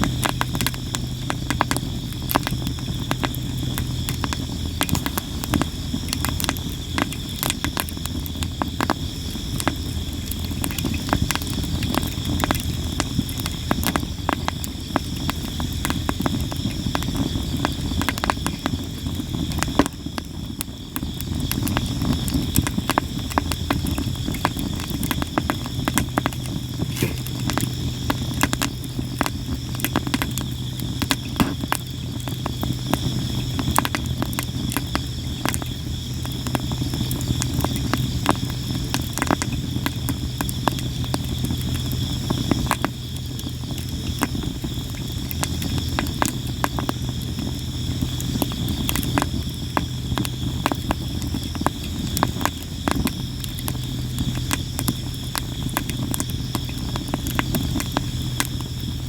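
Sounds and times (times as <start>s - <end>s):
campfire crackling and popping: 0.0s - 59.0s
insects chirring: 0.0s - 59.0s
low steady rumble: 0.0s - 59.0s.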